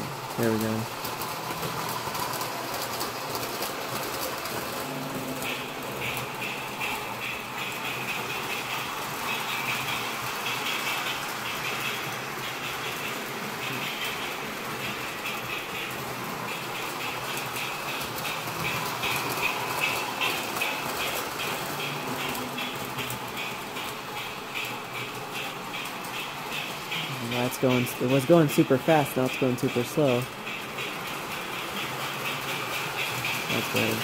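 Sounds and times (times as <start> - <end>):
model train wheels rumbling: 0.0 - 34.0.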